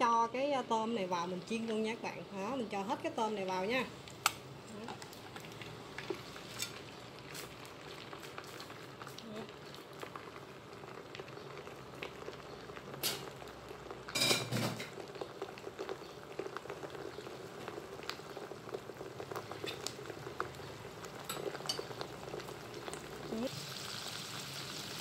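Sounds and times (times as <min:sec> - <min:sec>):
shrimp sizzling in hot oil: 0:03.9 - 0:25.0.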